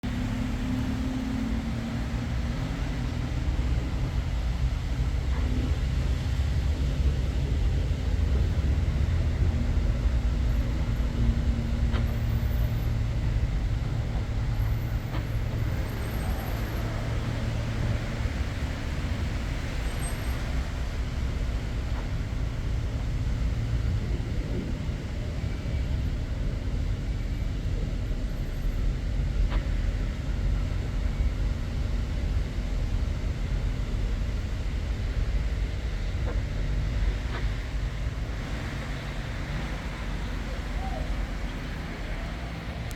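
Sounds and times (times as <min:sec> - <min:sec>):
low rumble: 0:00.0 - 0:42.9
road traffic: 0:00.0 - 0:42.9.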